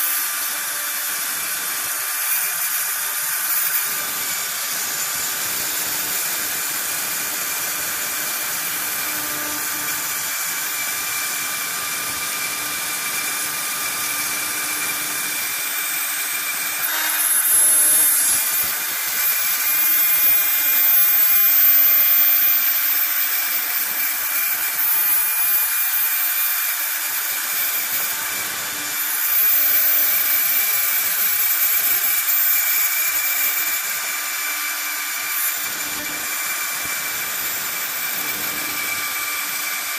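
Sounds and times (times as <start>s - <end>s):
cutter hissing in metal: 0.0s - 39.9s
milling spindle whine: 0.0s - 39.9s.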